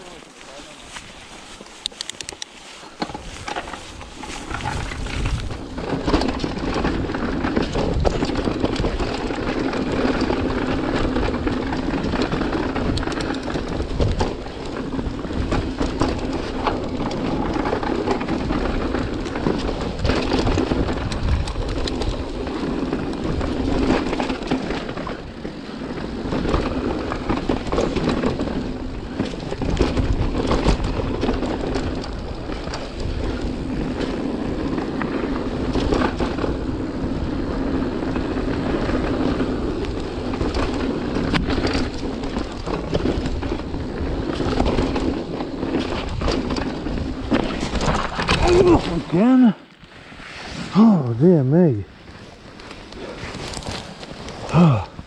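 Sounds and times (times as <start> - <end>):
bike tyre and drivetrain rattle: 0.0 - 55.0
bike knocking over bumps: 2.9 - 49.2.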